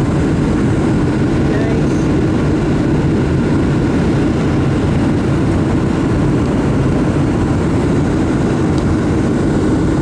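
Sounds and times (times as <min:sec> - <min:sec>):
jet engine rumble: 0:00.0 - 0:10.0
rushing airflow: 0:00.0 - 0:10.0.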